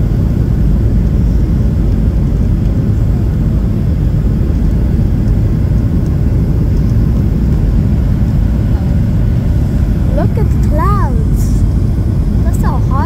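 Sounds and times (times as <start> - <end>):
airliner cabin engine noise: 0.0 - 13.0.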